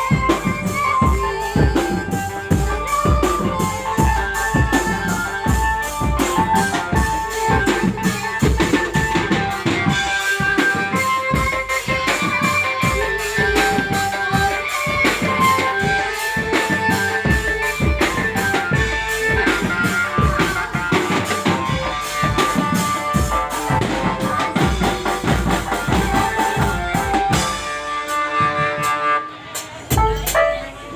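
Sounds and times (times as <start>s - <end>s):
band melody: 0.0s - 30.9s
drums beating quick rhythm: 0.0s - 30.9s.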